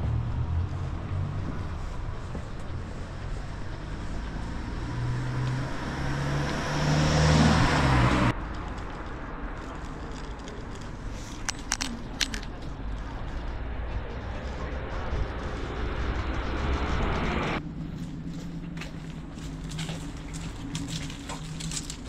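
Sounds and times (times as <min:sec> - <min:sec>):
street background: 0:00.0 - 0:22.0
vehicle passing close: 0:00.0 - 0:22.0.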